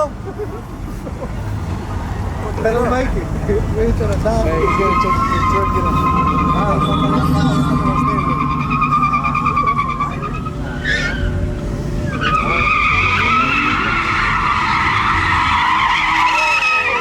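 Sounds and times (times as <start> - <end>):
car engine running: 2.0 - 17.0
tyres squealing: 2.7 - 17.0.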